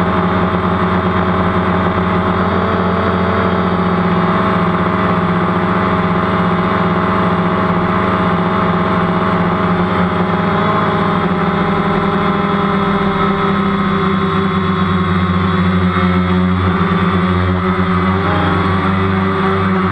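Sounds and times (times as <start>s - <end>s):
drone propellers humming: 0.0s - 19.9s.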